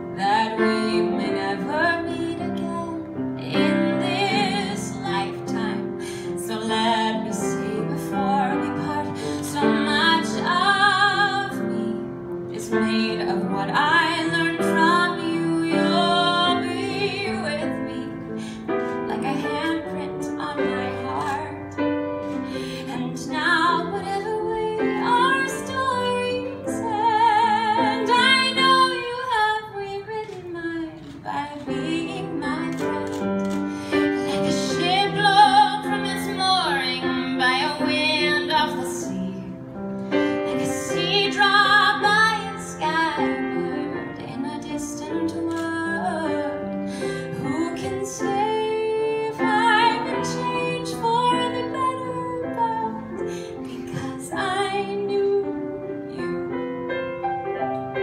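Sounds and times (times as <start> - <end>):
woman singing a ballad: 0.0 - 56.7
grand piano accompaniment: 0.0 - 58.0.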